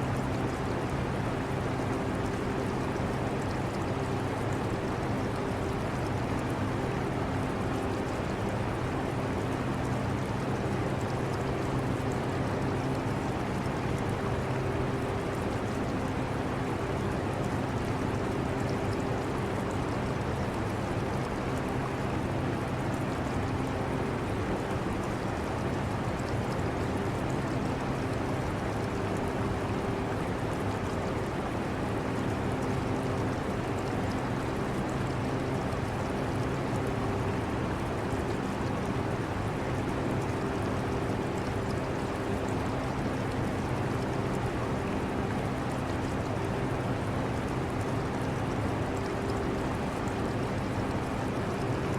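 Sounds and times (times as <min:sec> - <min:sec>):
aquarium water: 0:00.0 - 0:51.9.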